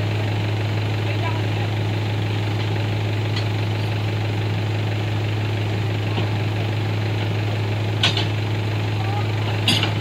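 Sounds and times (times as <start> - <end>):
diesel machinery idling: 0.0 - 10.0.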